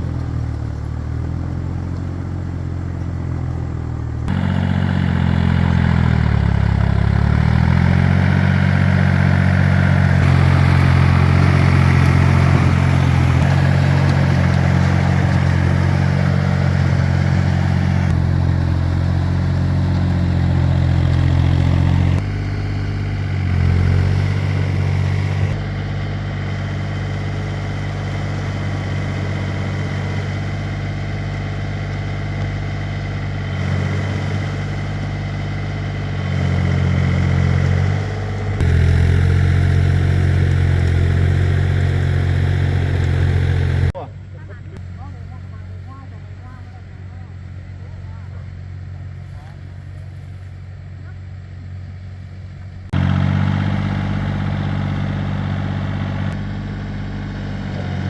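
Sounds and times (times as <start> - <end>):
tiller engine running: 0.0 - 50.0, 52.6 - 58.0.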